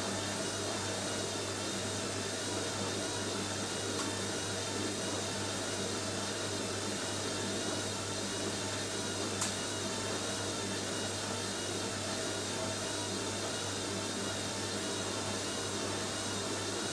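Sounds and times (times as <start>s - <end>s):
washing machine spinning: 0.0s - 16.9s.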